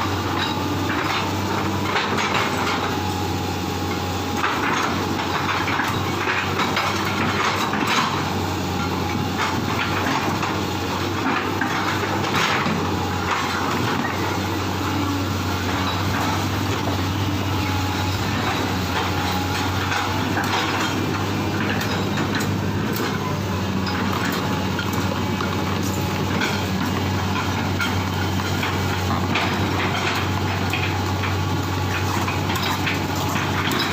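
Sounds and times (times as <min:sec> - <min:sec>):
diesel engine running: 0:00.0 - 0:33.9
metal clanks and scrapes: 0:00.2 - 0:03.0, 0:04.4 - 0:33.9.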